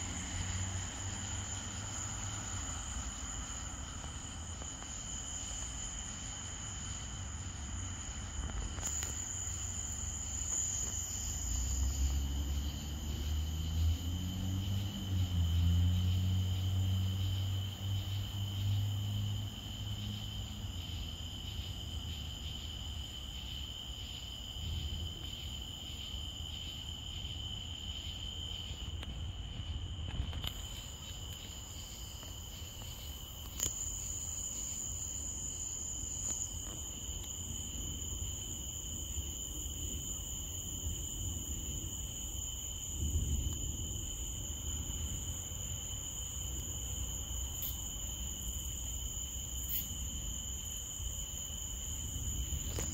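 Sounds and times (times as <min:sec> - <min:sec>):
crickets chirping: 0:00.0 - 0:52.9
higher insect trill: 0:00.0 - 0:52.9.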